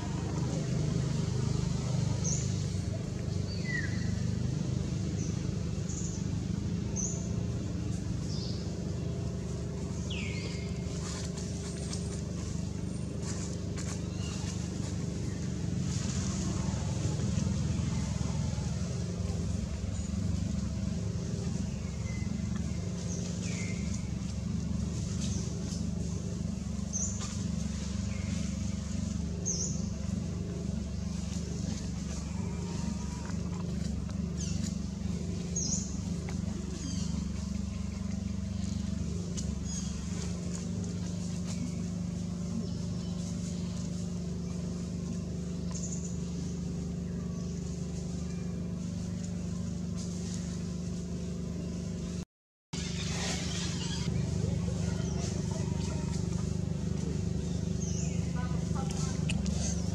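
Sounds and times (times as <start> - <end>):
low background rumble: 0.0 - 59.9
low motor drone: 0.0 - 59.9.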